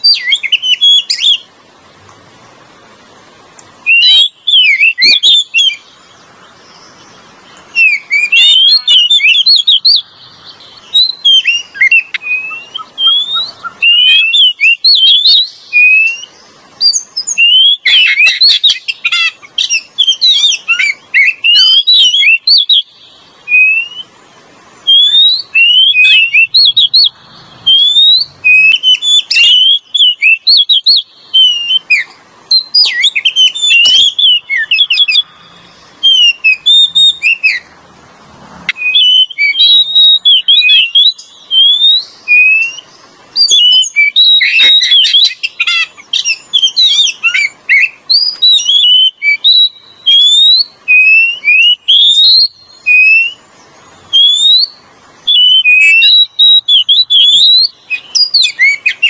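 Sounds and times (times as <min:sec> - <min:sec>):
bird whistles and chirps: 0:00.0 - 0:01.5, 0:03.8 - 0:06.0, 0:06.8 - 0:24.2, 0:24.8 - 0:37.7, 0:38.7 - 0:59.0.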